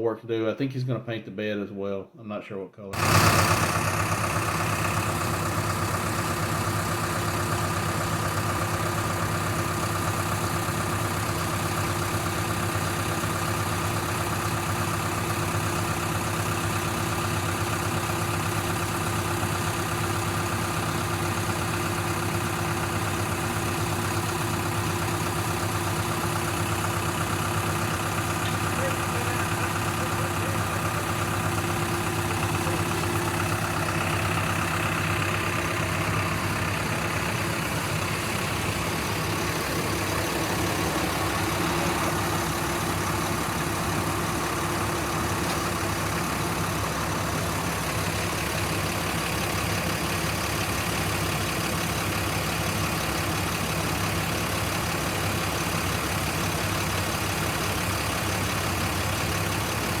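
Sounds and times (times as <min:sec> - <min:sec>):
heavy engine idling: 0:03.0 - 1:00.0.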